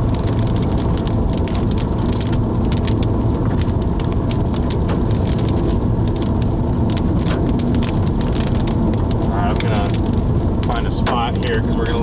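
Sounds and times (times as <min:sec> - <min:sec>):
low road rumble: 0:00.0 - 0:12.0
rain and hail ticking on car: 0:00.0 - 0:12.0.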